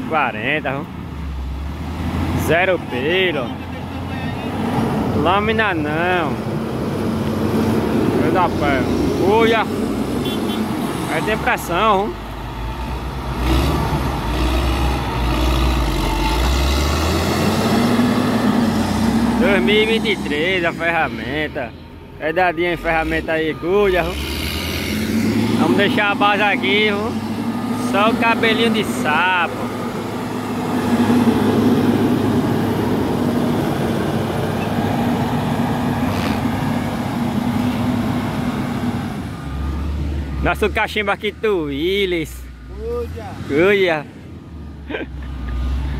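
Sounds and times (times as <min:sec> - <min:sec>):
diesel engine rumbling under load: 0:00.0 - 0:45.9.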